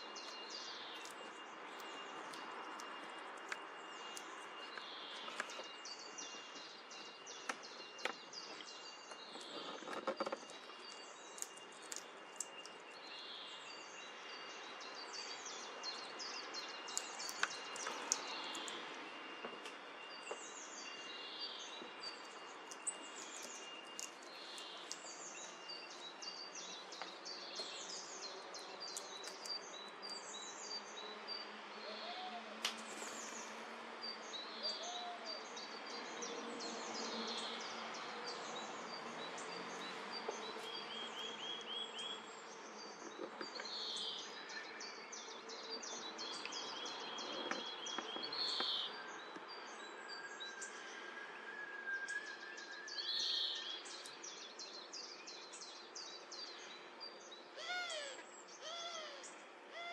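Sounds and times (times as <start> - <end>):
small birds chirping: 0.0 - 51.0, 52.2 - 59.9.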